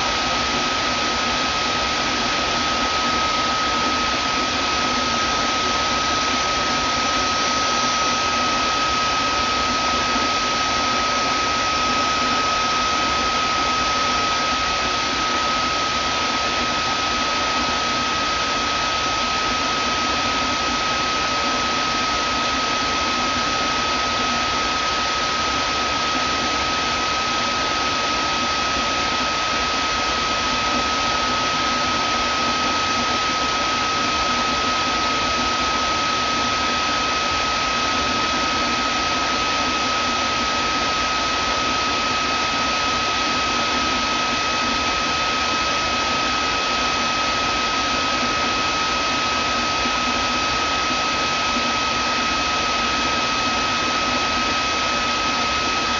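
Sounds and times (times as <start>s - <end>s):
vacuum cleaner motor running: 0.0s - 55.9s.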